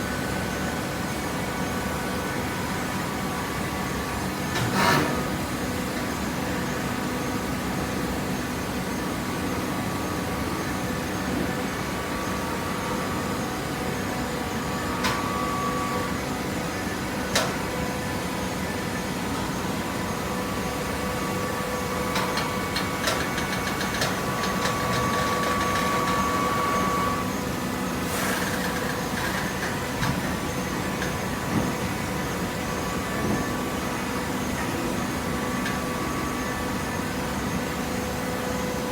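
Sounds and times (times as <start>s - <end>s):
baler motor and pump hum: 0.0s - 38.9s.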